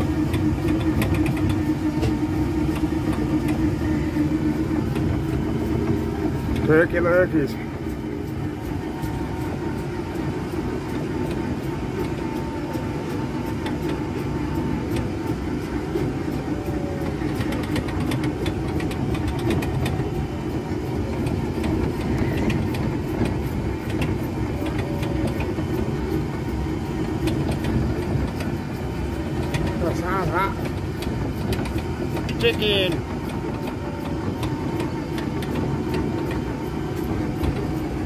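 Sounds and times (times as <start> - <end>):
vehicle mechanical drone: 0.0 - 38.0.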